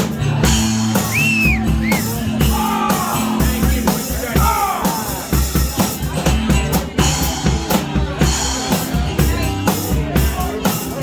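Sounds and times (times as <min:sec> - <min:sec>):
drum kit beat: 0:00.0 - 0:11.0
live rock band playing: 0:00.0 - 0:11.0.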